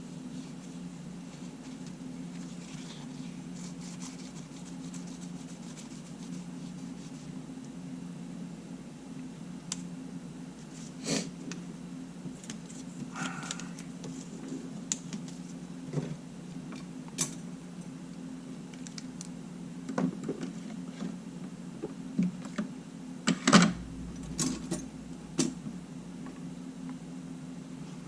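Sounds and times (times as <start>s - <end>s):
steady low hum: 0.0s - 19.8s, 22.8s - 28.0s.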